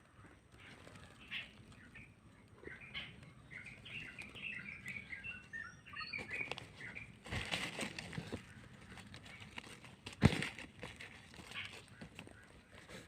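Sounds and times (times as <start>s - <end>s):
rustling and scraping: 0.0s - 5.1s, 6.0s - 13.0s
small birds chirping: 0.0s - 13.0s.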